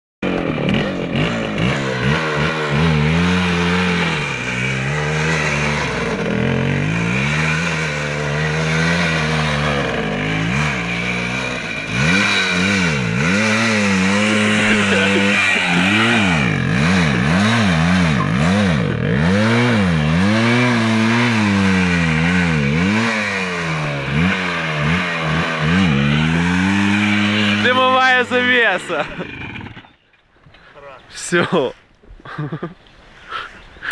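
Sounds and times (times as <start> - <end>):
two-stroke motorcycle engine revving: 0.2 - 30.0.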